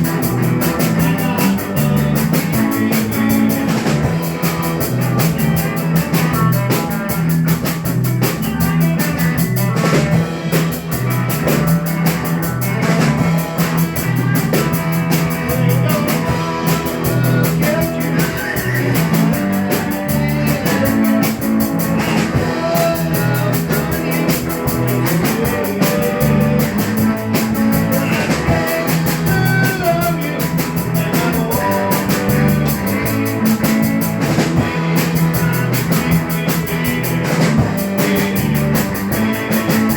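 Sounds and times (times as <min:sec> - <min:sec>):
bass guitar line: 0:00.0 - 0:39.9
drum kit beat: 0:00.0 - 0:39.9
electric guitar: 0:00.0 - 0:39.9
keyboard: 0:00.0 - 0:39.9.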